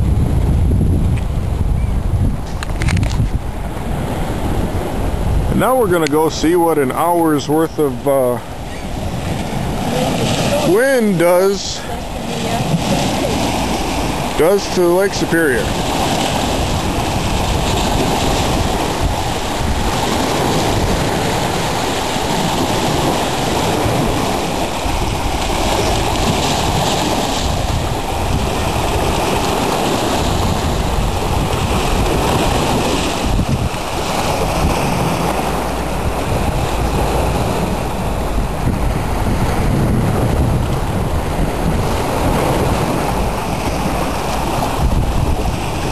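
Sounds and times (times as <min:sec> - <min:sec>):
waves breaking on shore: 0:00.0 - 0:45.9
wind buffeting microphone: 0:00.0 - 0:45.9.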